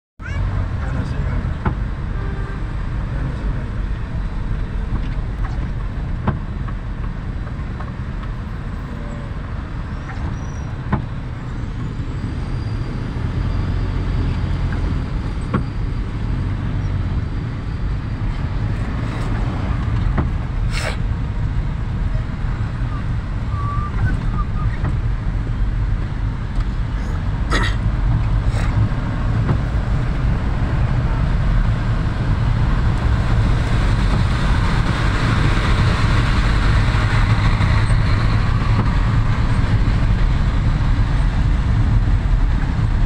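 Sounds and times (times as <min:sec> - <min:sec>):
vehicle engine and road noise: 0:00.2 - 0:43.0.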